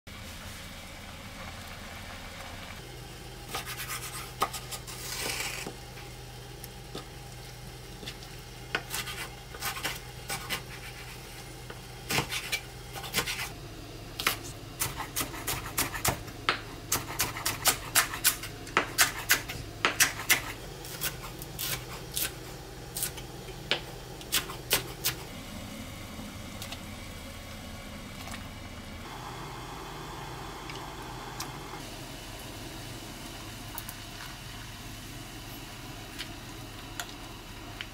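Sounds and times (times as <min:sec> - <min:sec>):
steady low hum: 0:02.7 - 0:37.8.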